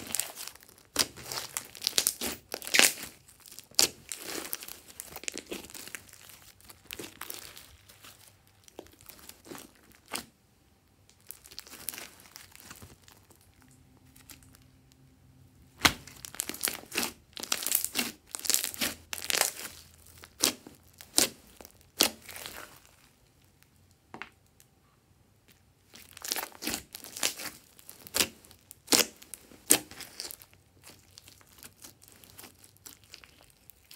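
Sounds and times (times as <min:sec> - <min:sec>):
slime squelching and crackling: 0:00.0 - 0:10.4, 0:11.0 - 0:23.8, 0:25.5 - 0:33.9.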